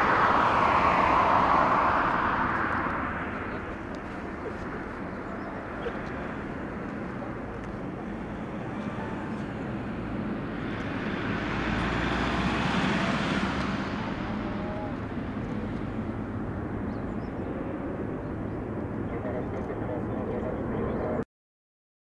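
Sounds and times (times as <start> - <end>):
jet engines rumbling at takeoff: 0.0 - 21.2.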